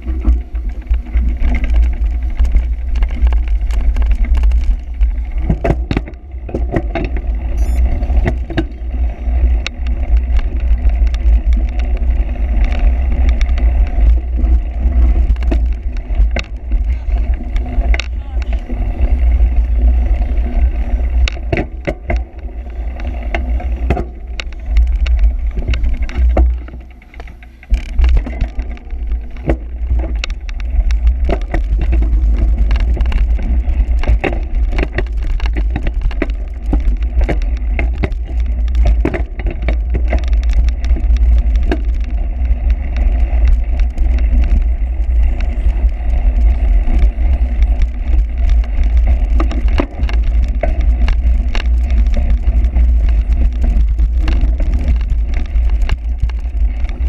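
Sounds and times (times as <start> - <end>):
bike rattling and knocking: 0.0 - 57.0
wind rumble on microphone: 0.0 - 57.0.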